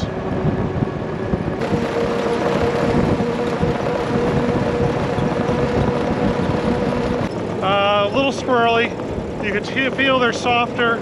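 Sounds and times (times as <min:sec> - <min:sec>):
hum: 0:00.0 - 0:09.7
knobby tires road noise: 0:00.0 - 0:11.0.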